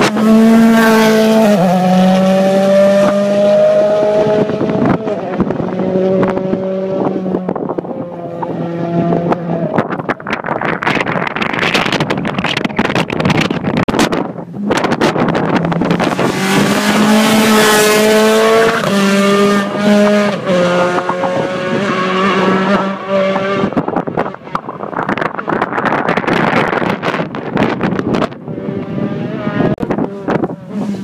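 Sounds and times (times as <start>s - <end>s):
rally car engine passing at speed: 0.0s - 10.3s, 14.6s - 31.0s
wind buffeting microphone: 0.0s - 31.0s.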